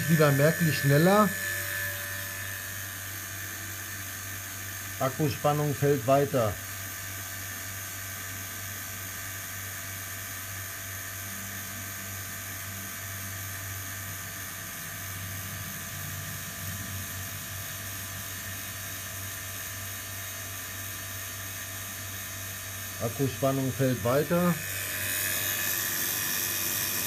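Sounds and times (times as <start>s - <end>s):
small electric motor humming and whining: 0.0s - 27.0s.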